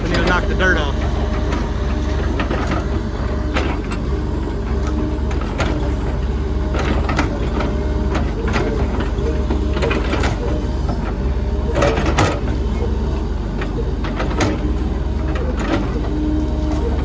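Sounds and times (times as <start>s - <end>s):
digging machine engine running: 0.0s - 17.0s.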